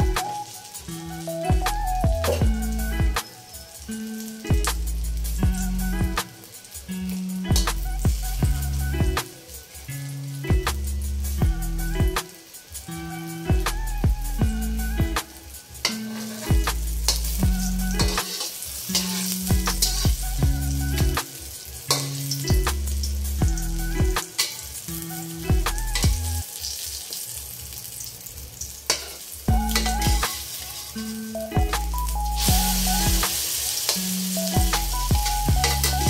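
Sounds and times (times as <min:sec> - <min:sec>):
background music with beat: 0:00.0 - 0:27.1, 0:28.9 - 0:36.0
omelettes sizzling in oil: 0:00.0 - 0:36.0.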